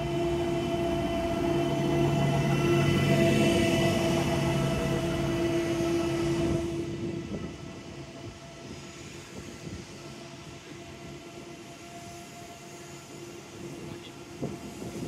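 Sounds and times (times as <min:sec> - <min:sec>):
electric train hum: 0:00.0 - 0:15.0
train running gear rumble: 0:00.0 - 0:15.0.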